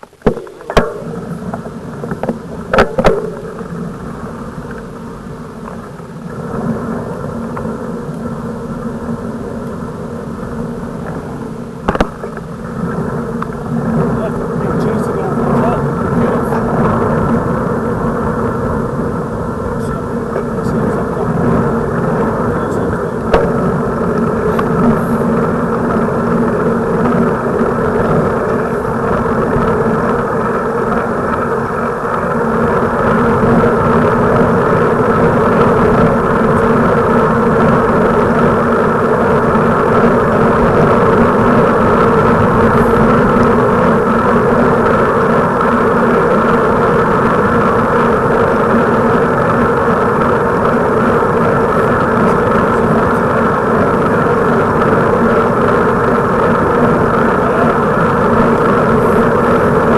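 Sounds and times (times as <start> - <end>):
bicycle road noise: 0.0 - 59.9
rushing wind: 0.0 - 59.9.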